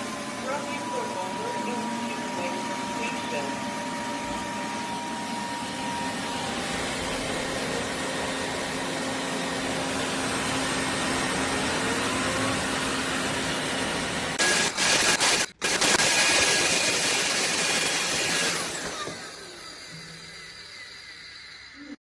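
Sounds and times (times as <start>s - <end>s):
vacuum mop whirring: 0.0s - 22.0s.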